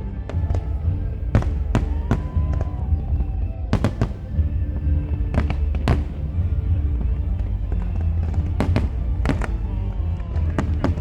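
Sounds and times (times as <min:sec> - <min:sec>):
fireworks bangs: 0:00.2 - 0:11.0
low rumble: 0:00.3 - 0:11.0.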